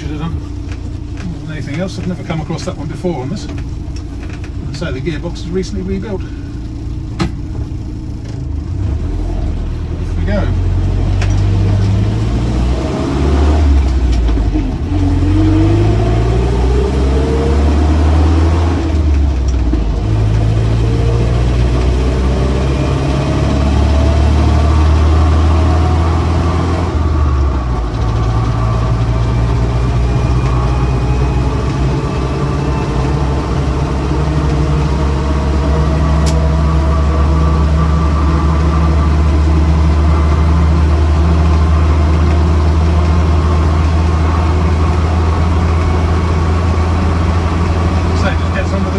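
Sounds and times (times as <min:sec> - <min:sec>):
car engine accelerating through gears: 0:00.0 - 0:48.9
tyre road noise: 0:00.0 - 0:48.9.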